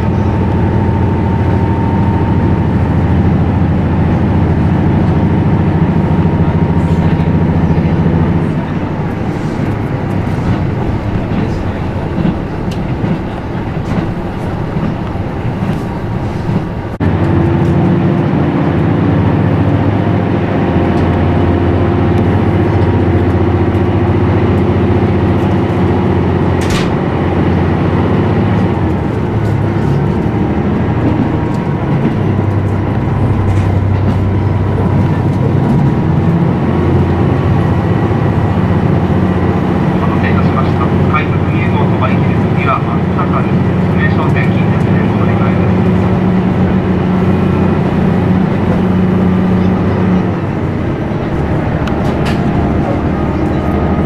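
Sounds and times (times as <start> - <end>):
diesel railcar engine drone: 0.0 - 54.0
rail noise: 0.0 - 54.0.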